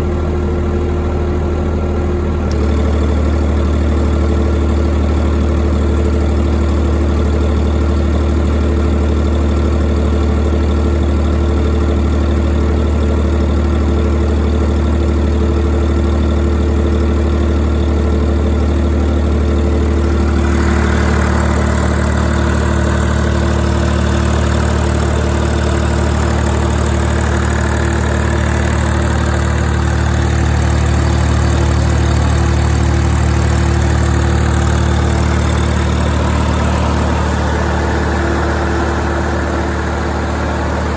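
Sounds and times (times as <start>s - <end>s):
diesel generator running: 0.0s - 40.9s.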